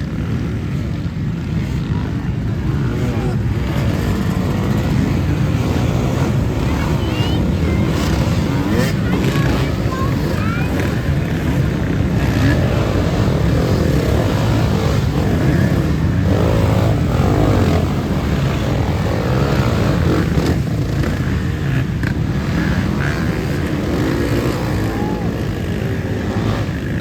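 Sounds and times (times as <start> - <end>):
off-road motorcycle engines revving: 0.0 - 27.0.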